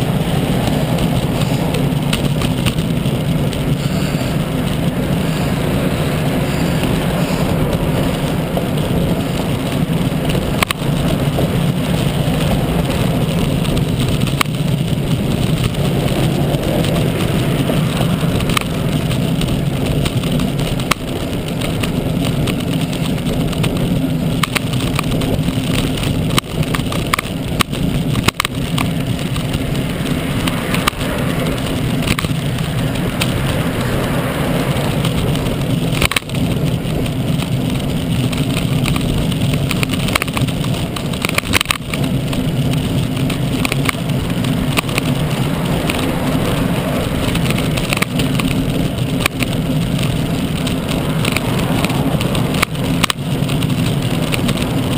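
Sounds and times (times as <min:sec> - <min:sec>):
wind and road rush: 0:00.0 - 0:54.9.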